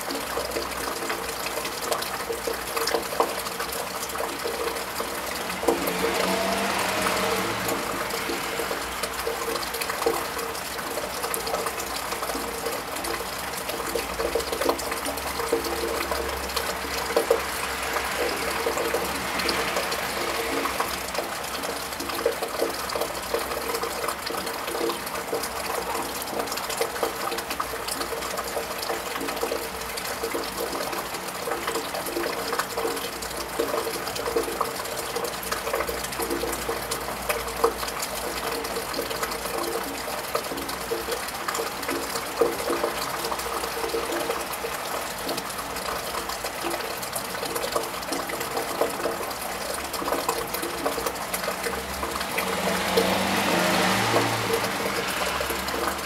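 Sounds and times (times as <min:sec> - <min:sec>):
rain on a tiled roof: 0:00.0 - 0:56.0
traffic on wet road: 0:00.0 - 0:56.0
water drips and splashes: 0:00.0 - 0:56.0.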